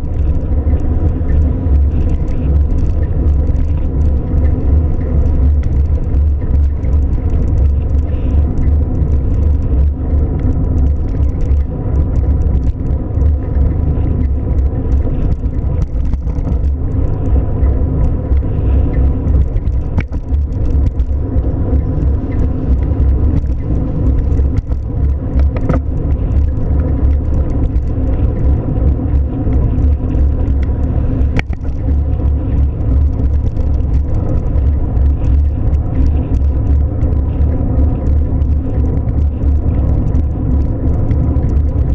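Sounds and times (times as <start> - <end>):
car engine rumble: 0.0 - 41.9.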